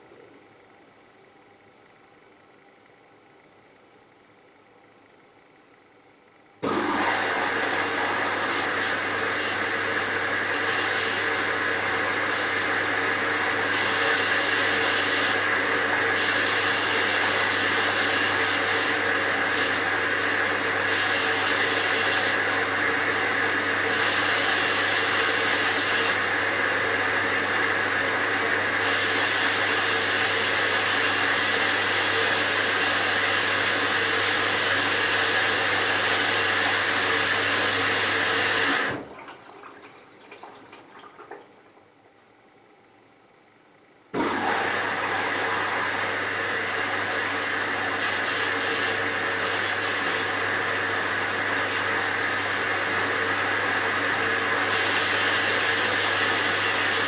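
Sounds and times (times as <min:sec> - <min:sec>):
washing machine motor whine: 0:06.6 - 0:42.7, 0:44.1 - 0:57.0.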